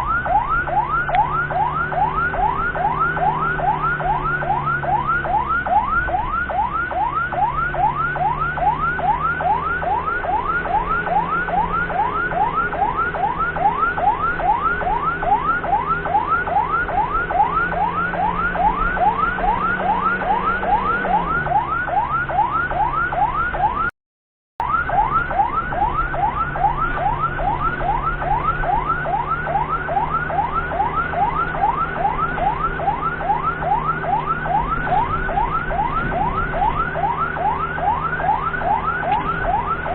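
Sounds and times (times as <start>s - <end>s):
ambulance siren yelping: 0.0s - 23.9s, 24.6s - 39.9s.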